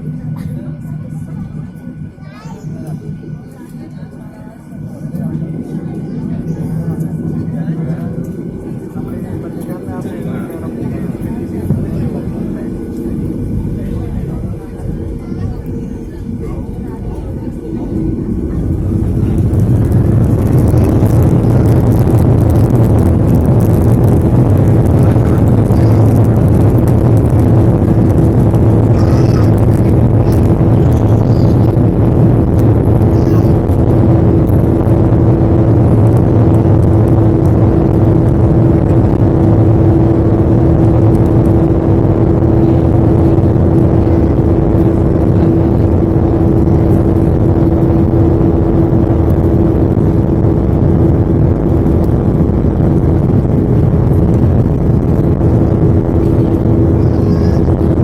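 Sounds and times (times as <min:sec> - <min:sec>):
airplane engines roaring: 0:00.0 - 0:58.0.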